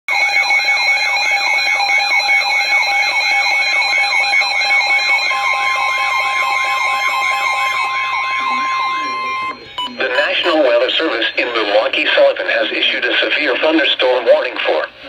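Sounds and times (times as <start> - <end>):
steady single-pitch warning tone: 0.1 - 13.5
warbling alert siren: 0.1 - 13.6
steady beeping tones: 0.1 - 13.9.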